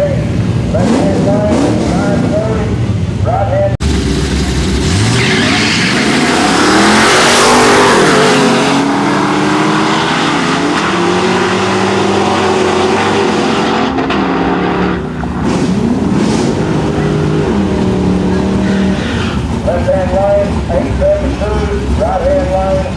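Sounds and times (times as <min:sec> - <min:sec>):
car engines revving: 0:00.0 - 0:22.9.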